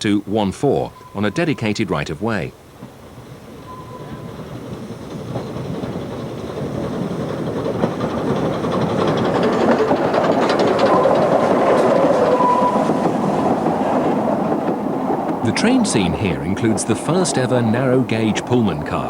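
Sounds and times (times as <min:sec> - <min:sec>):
train running past: 0:00.0 - 0:19.0
wheels clicking over rail joints: 0:00.0 - 0:19.0.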